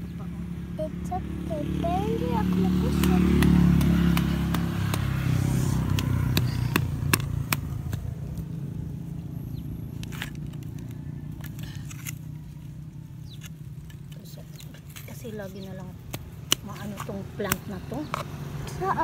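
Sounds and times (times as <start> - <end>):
low engine hum: 0.0 - 19.0
dry plant stems crackling: 2.9 - 18.5.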